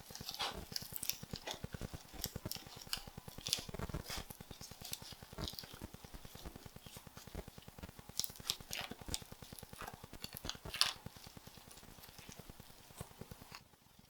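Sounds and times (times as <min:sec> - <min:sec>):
rice pressed on seaweed crackling: 0:00.0 - 0:14.0.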